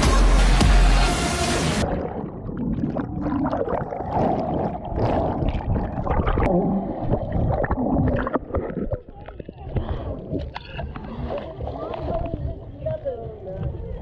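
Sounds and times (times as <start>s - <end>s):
underwater gurgling and bubbling: 1.8s - 14.0s.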